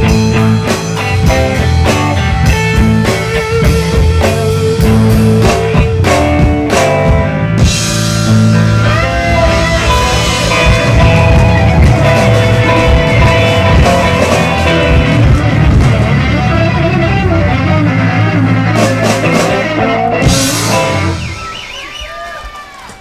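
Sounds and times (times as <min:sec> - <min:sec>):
blues band music: 0:00.0 - 0:23.0
bent guitar note: 0:00.2 - 0:21.3.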